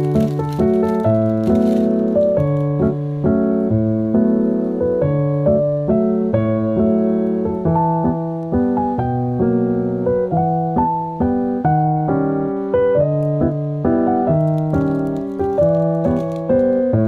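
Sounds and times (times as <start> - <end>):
piano playing chords: 0.0 - 17.0.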